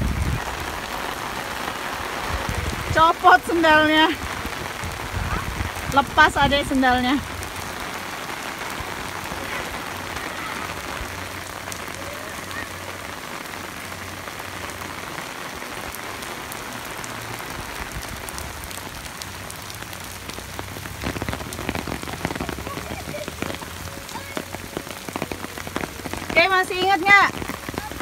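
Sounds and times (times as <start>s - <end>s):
heavy rain on wet ground: 0.0s - 28.0s.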